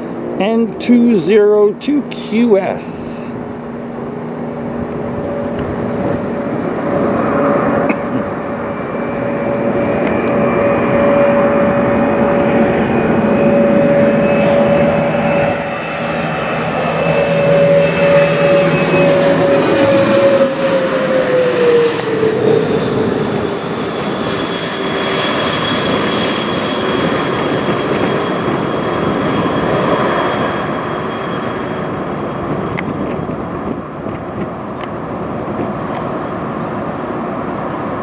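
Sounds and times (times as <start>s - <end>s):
jet passing overhead: 0.0s - 38.0s.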